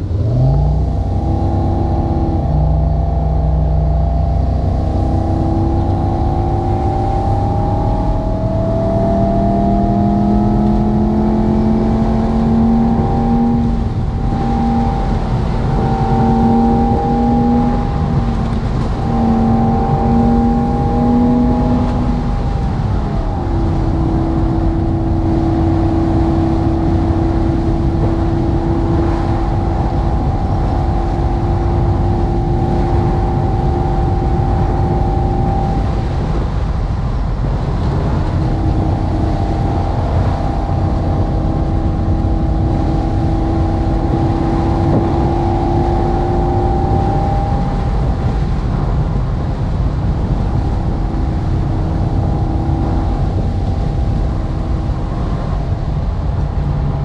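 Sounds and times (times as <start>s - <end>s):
synthesized engine sound: 0.0s - 57.0s
tyre and road rumble: 0.0s - 57.0s.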